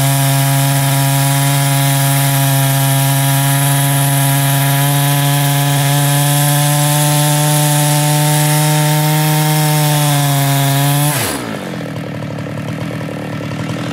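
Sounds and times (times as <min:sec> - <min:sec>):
chainsaw cutting log: 0:00.0 - 0:13.9.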